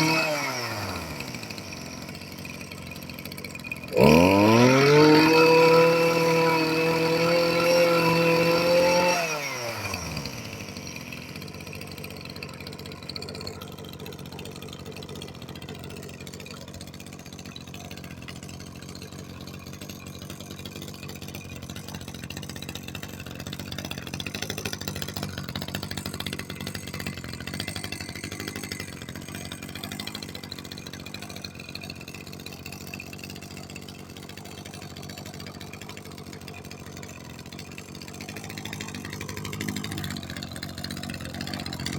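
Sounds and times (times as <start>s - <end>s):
brush cutter engine idling: 0.0s - 41.9s.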